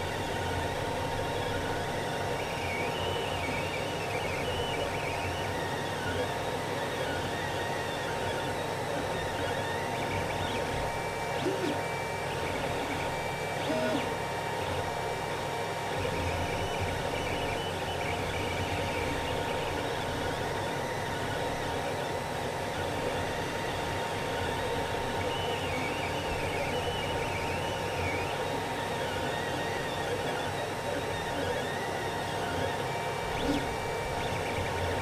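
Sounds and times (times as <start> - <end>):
stepper motor whines: 0.0 - 15.2, 15.9 - 35.0
cooling fans whirring: 0.0 - 35.0.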